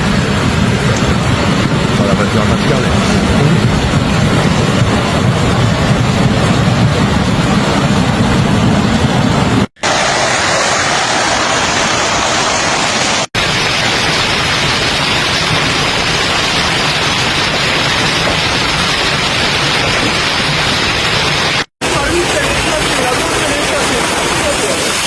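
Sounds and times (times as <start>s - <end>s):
rushing storm water: 0.0s - 25.0s.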